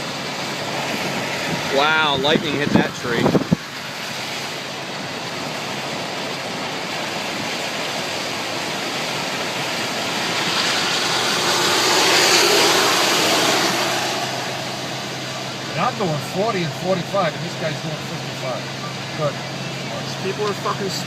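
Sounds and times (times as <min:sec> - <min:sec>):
car tyres spraying through water: 0:00.0 - 0:21.0.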